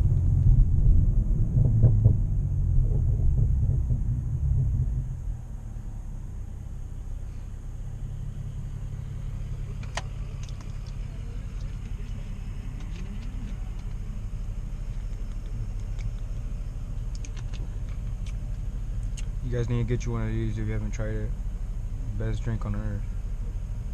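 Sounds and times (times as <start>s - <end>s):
car engine and road noise: 0.0s - 23.9s.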